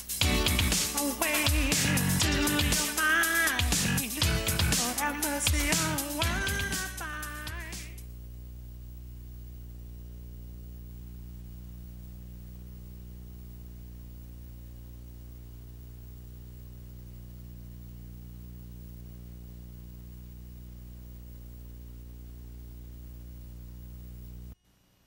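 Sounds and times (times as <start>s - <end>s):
electrical mains hum: 0.0s - 25.0s
faint tape hiss: 0.0s - 25.0s.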